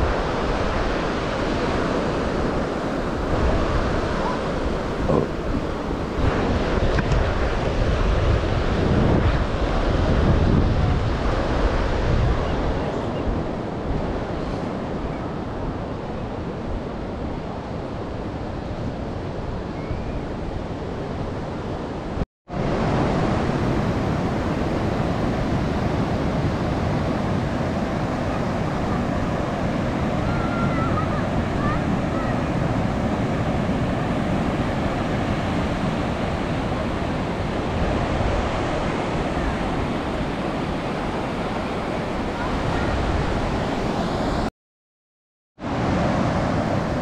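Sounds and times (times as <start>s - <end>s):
ocean surf washing: 0.0s - 44.5s, 45.6s - 47.0s
wind buffeting microphone: 0.0s - 44.5s.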